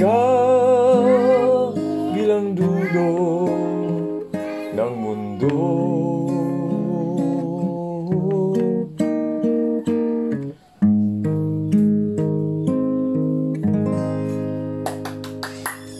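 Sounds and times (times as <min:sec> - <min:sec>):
acoustic guitar picking chords: 0:00.0 - 0:15.9.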